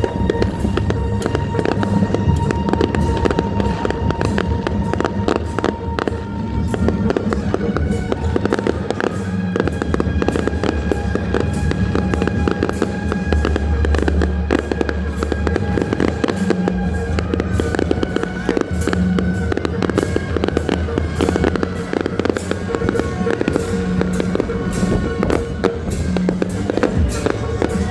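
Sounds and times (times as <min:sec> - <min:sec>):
fireworks crackling: 0:00.0 - 0:27.9
music with long held tones: 0:00.0 - 0:27.9.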